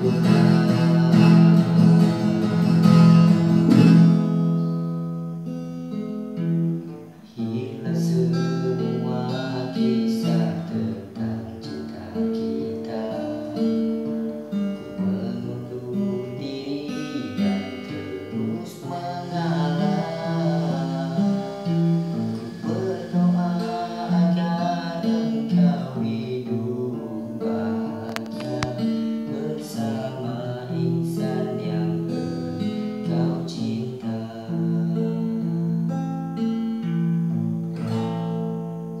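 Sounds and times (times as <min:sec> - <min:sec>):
classical guitar chords: 0:00.0 - 0:39.0.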